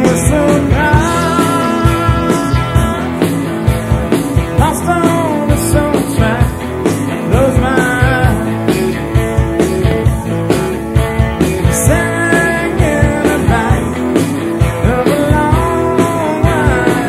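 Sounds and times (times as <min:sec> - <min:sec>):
country-rock band playing: 0:00.0 - 0:17.0
drum beat: 0:00.0 - 0:17.0
sliding lead melody: 0:00.0 - 0:17.0.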